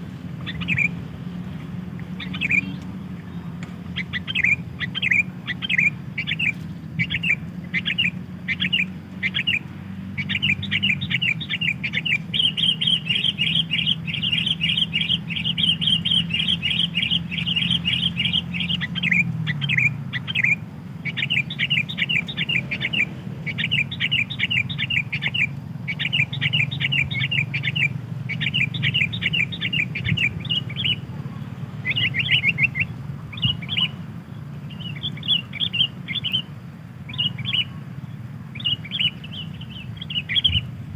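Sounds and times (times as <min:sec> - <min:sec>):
bulbul chirps and trill: 0:00.4 - 0:01.0, 0:02.1 - 0:02.8, 0:03.9 - 0:31.1, 0:31.8 - 0:37.8, 0:38.5 - 0:40.8.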